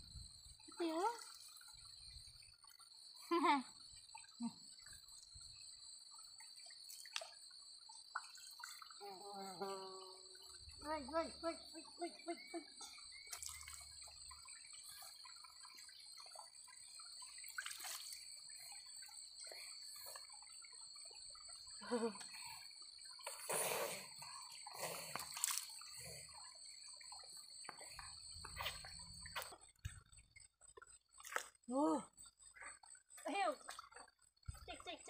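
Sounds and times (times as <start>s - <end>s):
water splashing and dripping: 0.3s - 9.0s, 10.5s - 35.0s.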